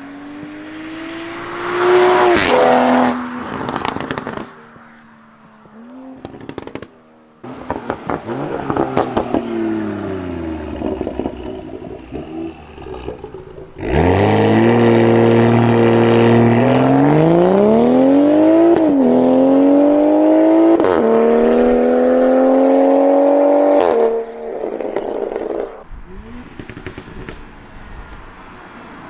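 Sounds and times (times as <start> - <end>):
car engine accelerating hard: 0.0 - 29.0
exhaust crack on upshift: 0.3 - 29.0.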